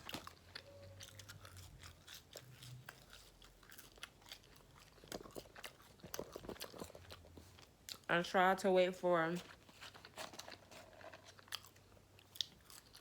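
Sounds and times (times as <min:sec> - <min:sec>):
person chewing crunchy food: 0:00.0 - 0:08.1, 0:09.4 - 0:13.0.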